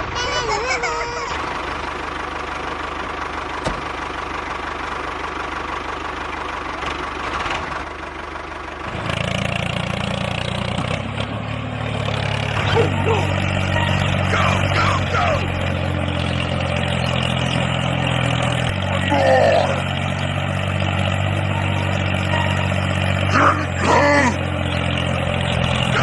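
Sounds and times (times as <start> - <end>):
tractor motor running: 0.0 - 26.0.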